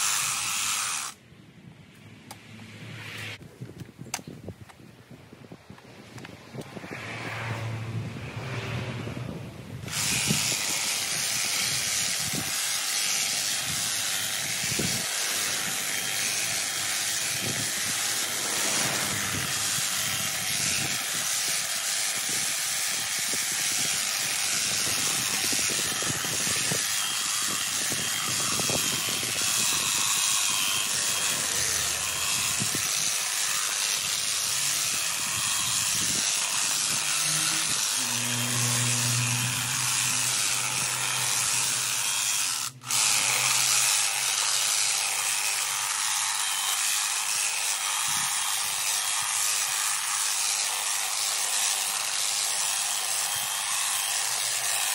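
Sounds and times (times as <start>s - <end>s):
hedge trimmer buzzing: 0.0s - 1.2s, 9.8s - 54.9s.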